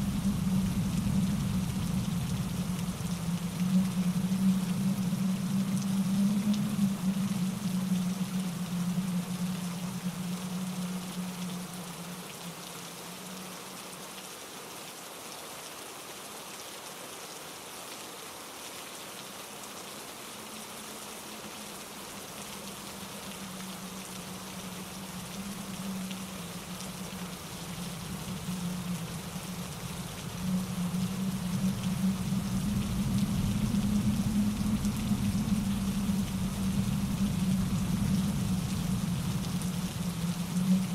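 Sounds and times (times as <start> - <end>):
rain falling through trees: 0.0 - 40.9.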